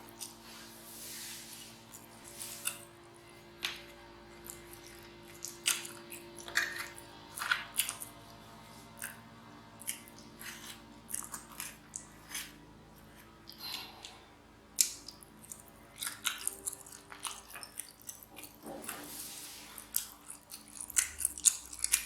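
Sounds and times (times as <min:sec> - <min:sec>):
person chewing wetly: 0:00.0 - 0:00.8, 0:01.5 - 0:09.2, 0:09.8 - 0:22.0.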